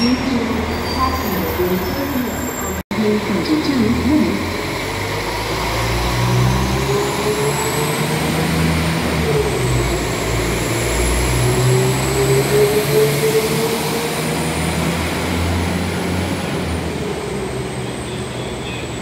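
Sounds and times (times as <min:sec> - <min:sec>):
rising whine of accelerating train: 0:00.0 - 0:19.0
train engines rumbling: 0:00.0 - 0:19.0.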